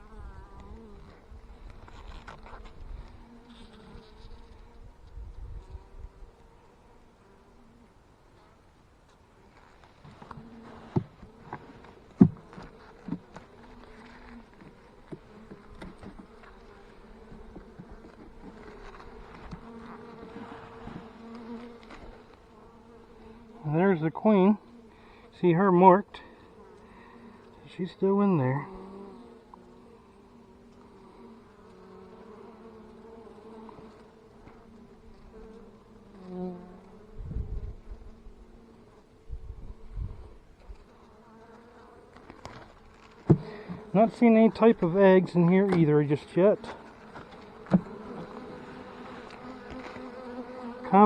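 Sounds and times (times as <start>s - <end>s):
bees buzzing: 0.0s - 8.1s, 9.4s - 51.0s.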